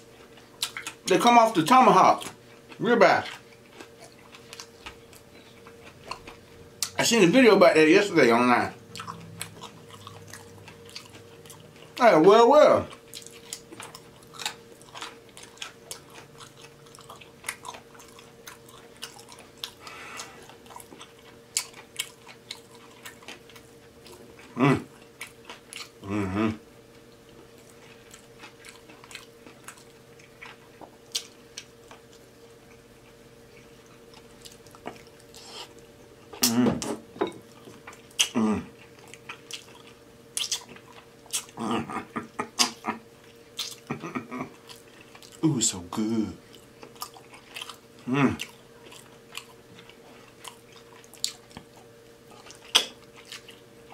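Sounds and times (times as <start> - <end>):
person chewing: 0.0 - 1.1, 1.8 - 7.0, 8.6 - 12.0, 12.8 - 45.5, 46.4 - 53.9.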